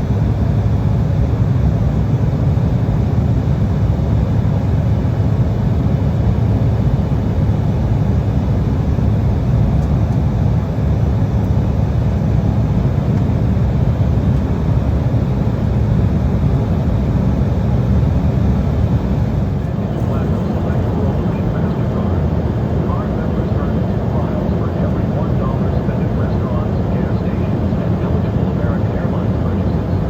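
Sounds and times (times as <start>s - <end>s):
jet cabin engine rumble: 0.0s - 30.0s.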